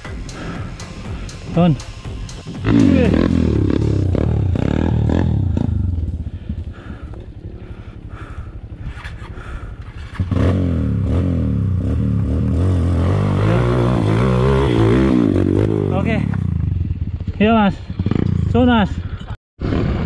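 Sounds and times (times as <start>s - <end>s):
dirt bike engine revving: 1.6s - 7.0s, 8.2s - 18.9s.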